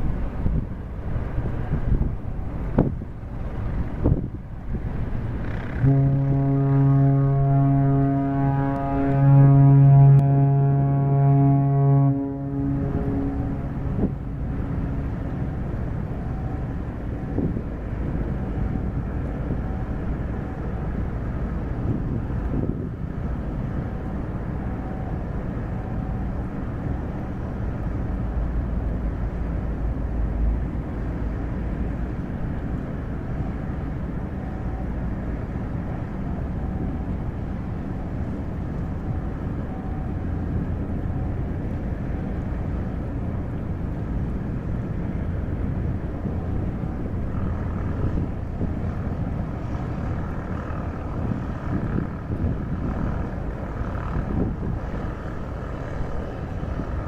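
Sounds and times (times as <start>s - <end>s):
ship engines rumbling: 0.0s - 57.0s
faint steady tones: 5.8s - 57.0s.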